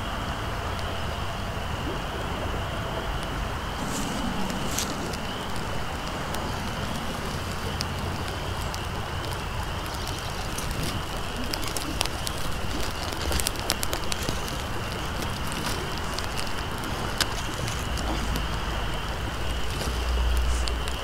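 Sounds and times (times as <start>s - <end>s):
fire crackling and popping: 0.0s - 21.0s
steady rushing noise: 0.0s - 21.0s.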